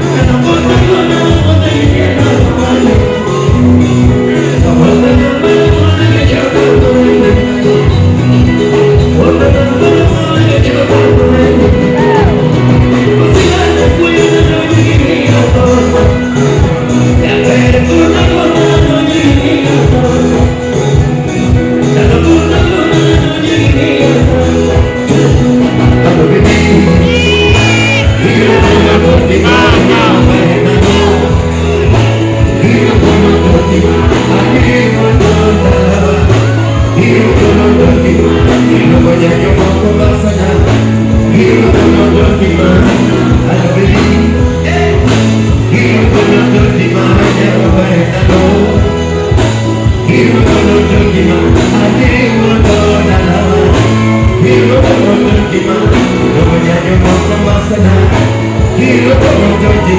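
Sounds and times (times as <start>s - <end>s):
live band music: 0.0s - 59.9s
person singing: 0.0s - 59.9s
repeating bass line: 0.0s - 59.9s.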